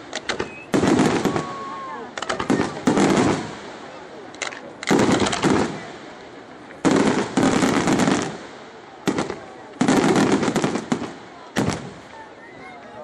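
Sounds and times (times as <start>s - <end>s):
firework bangs and crackling: 0.0s - 12.9s.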